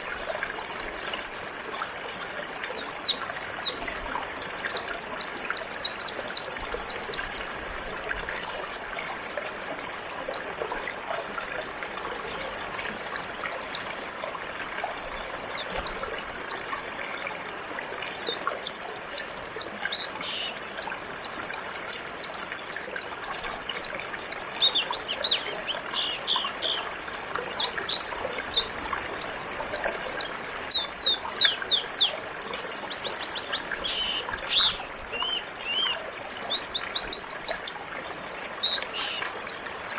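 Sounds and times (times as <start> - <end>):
river flowing: 0.0 - 39.9
songbirds chirping: 0.0 - 39.9.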